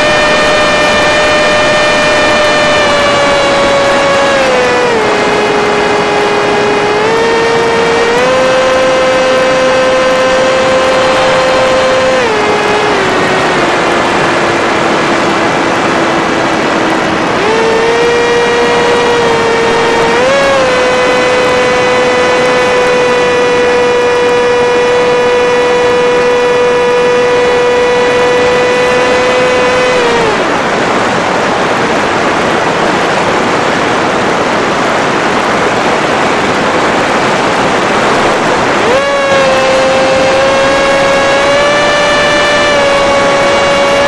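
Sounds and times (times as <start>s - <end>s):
electric motor and propeller whining: 0.0s - 44.0s.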